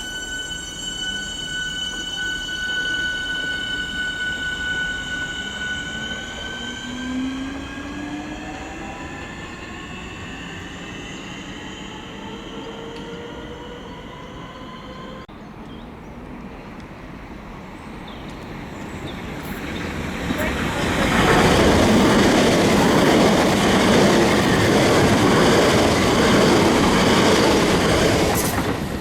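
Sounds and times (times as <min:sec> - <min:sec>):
train motors whining: 0:00.0 - 0:15.2, 0:19.1 - 0:29.0
train rumbling on rails: 0:00.0 - 0:29.0.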